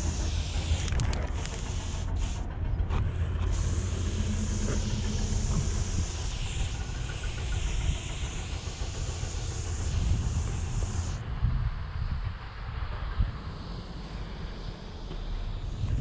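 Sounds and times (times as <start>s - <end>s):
spray paint hissing: 0.0s - 11.2s, 13.0s - 16.0s
wind rumble on microphone: 2.2s - 16.0s.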